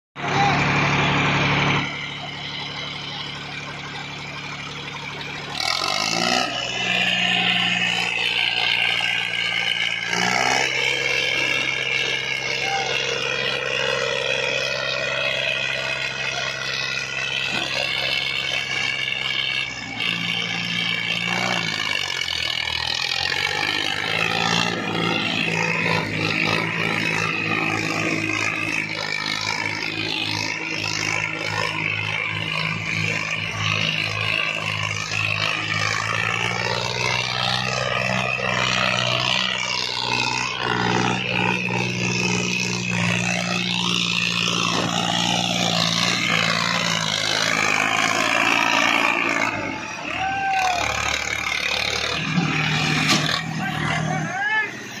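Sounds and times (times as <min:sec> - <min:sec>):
diesel tractor engines straining: 0:00.2 - 0:55.0.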